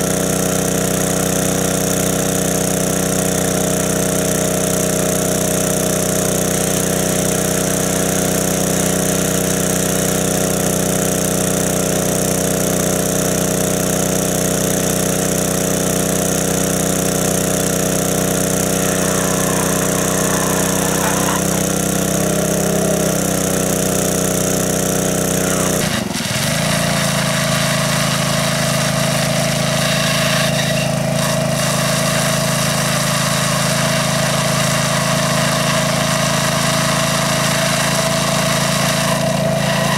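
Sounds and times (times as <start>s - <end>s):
engine-driven water pump running: 0.0s - 39.9s
water spraying from outlet: 0.0s - 39.9s.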